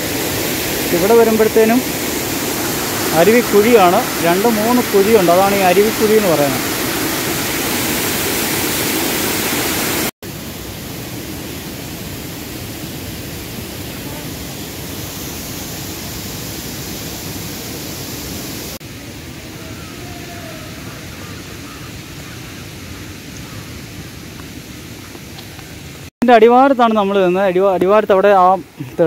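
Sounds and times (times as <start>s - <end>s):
waterfall roaring: 0.0s - 26.1s.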